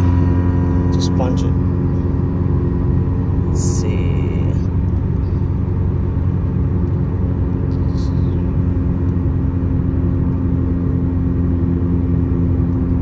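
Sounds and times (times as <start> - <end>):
car engine cruising: 0.0 - 13.0
road noise: 0.0 - 13.0.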